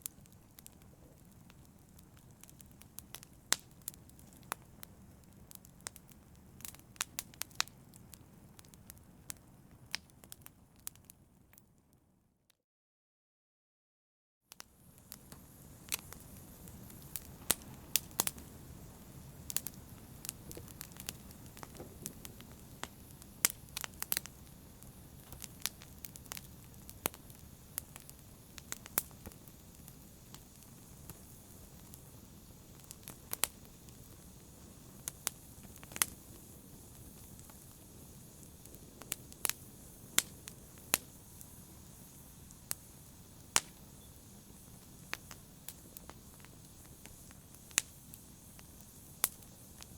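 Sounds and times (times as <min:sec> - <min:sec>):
wood fire crackling and popping: 0:00.0 - 0:11.6, 0:14.5 - 0:49.9.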